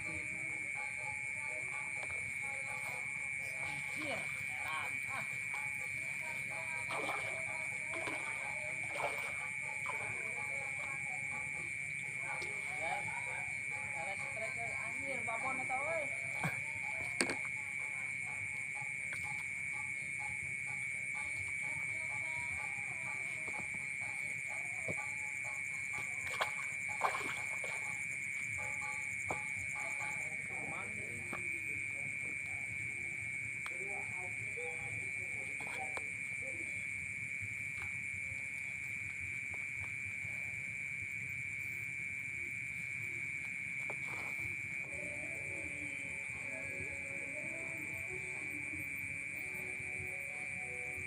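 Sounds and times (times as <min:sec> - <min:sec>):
faint music: 0:00.0 - 0:37.5, 0:42.4 - 0:51.0.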